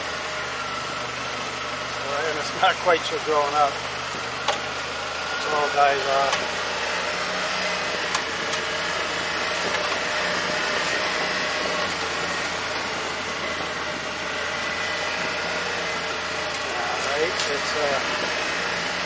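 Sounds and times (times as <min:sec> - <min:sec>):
travel noise along trail: 0:00.0 - 0:19.0
vehicle engine running: 0:00.0 - 0:19.0.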